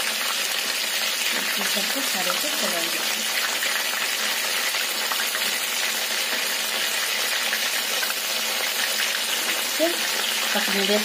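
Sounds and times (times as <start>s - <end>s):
prawns deep-frying in oil: 0.0s - 11.0s.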